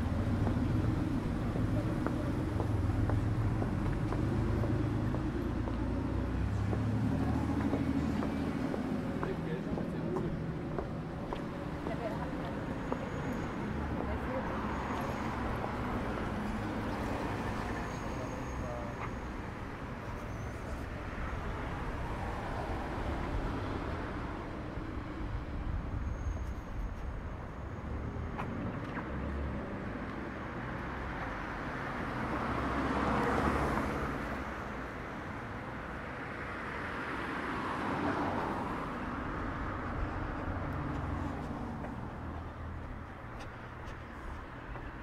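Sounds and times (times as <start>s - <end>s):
low rumble of traffic: 0.0s - 45.0s.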